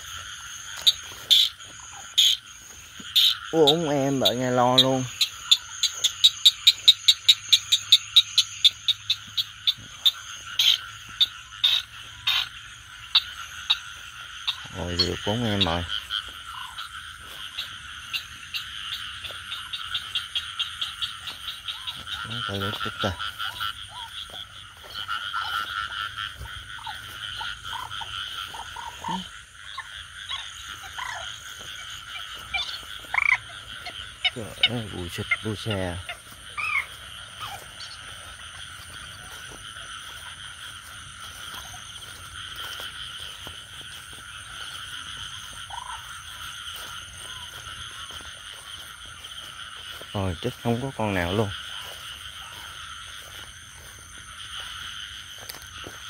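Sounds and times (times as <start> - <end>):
background frog chorus: 0.0 - 56.0
frog croaks: 0.0 - 56.0
frogs clicking calls: 0.0 - 56.0.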